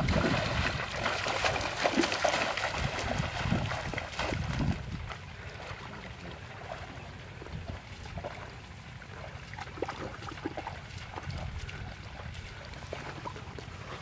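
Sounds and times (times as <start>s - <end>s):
feet splashing through water: 0.0s - 14.0s.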